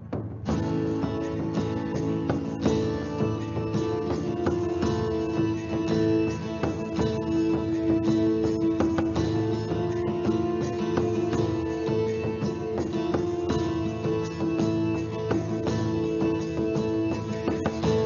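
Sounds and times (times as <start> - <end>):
plucked strings: 0.0 - 18.0.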